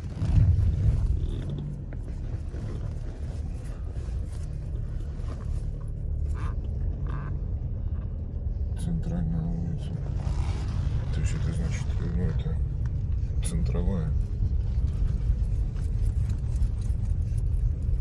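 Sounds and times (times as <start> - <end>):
car driving slowly: 0.0 - 18.0.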